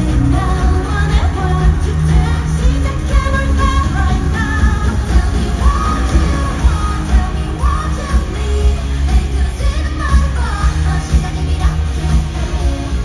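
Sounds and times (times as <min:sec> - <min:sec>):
female vocals singing: 0:00.0 - 0:13.0.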